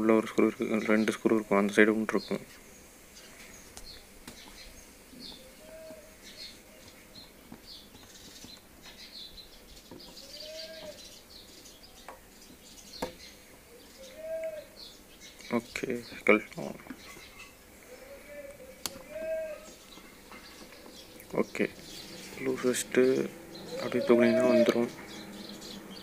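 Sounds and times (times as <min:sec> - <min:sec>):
birds chirping high calls: 0:00.0 - 0:26.0
soft low rising bird calls: 0:03.2 - 0:15.6, 0:17.0 - 0:26.0.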